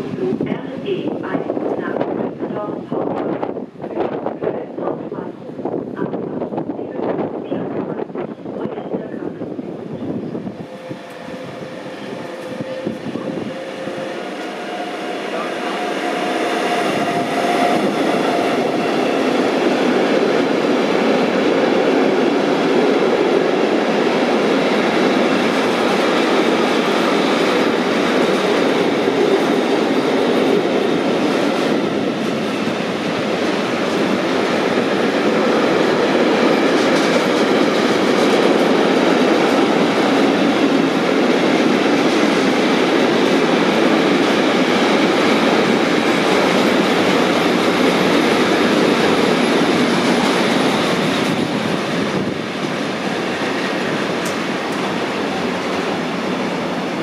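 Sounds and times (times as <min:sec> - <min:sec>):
train wheels running over rails: 0:10.4 - 0:57.0.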